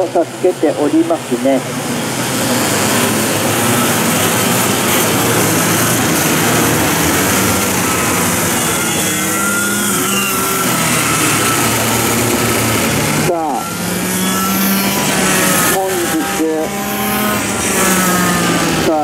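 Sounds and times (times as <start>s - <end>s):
racing kart engines buzzing: 0.0s - 19.0s.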